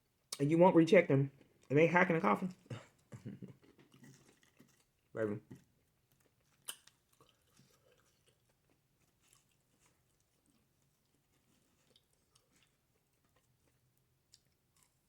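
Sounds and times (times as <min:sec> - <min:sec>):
person chewing food: 0:01.4 - 0:01.7, 0:02.5 - 0:15.0.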